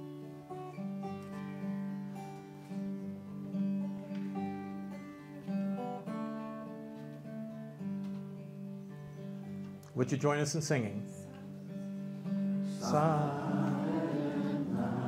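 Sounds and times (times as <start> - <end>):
acoustic guitar playing slowly: 0.0 - 15.0.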